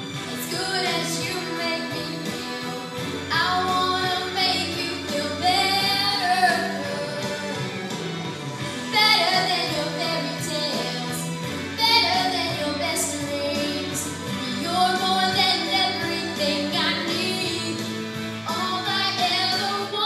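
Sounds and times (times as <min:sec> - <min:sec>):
instrumental accompaniment: 0:00.0 - 0:20.0
woman singing: 0:00.2 - 0:07.8, 0:08.9 - 0:20.0.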